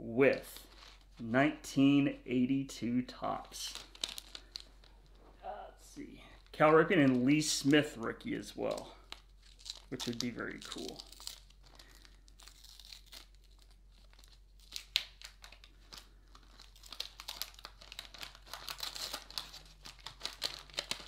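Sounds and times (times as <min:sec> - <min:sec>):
paper wrapper crinkling and tearing: 0:00.3 - 0:01.2, 0:03.3 - 0:05.3, 0:06.3 - 0:21.0.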